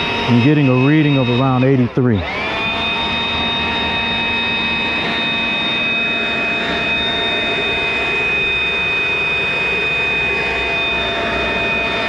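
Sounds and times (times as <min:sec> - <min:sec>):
leaf blower running: 0:00.0 - 0:12.0.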